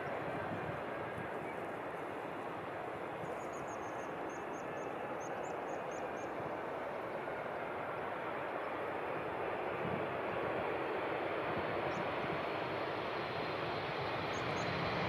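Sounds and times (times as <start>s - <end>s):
airliner engines rushing: 0.0s - 15.0s.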